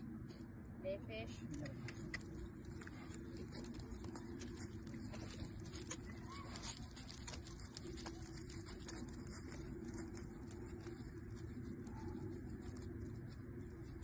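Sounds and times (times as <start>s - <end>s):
low steady rumble: 0.0s - 14.0s
hooves crunching straw: 2.2s - 14.0s.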